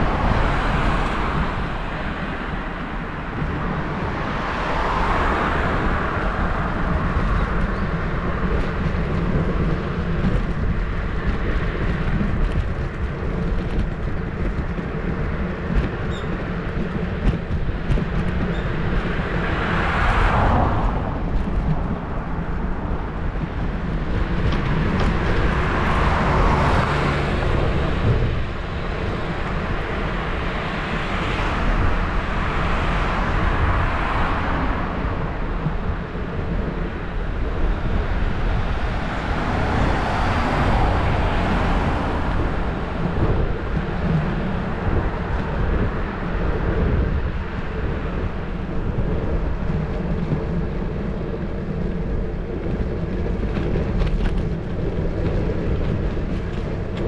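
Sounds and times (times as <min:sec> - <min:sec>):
cars passing: 0:00.0 - 0:57.0
wind rumble on microphone: 0:00.0 - 0:57.0.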